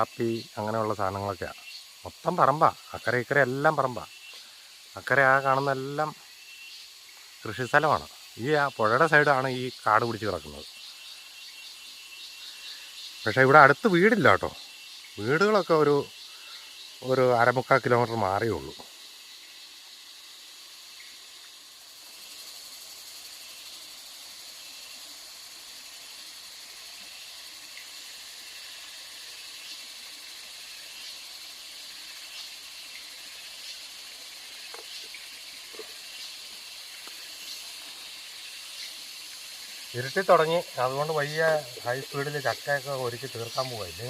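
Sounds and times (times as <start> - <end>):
cicadas buzzing: 0.0 - 44.0
crickets chirping: 0.0 - 44.0.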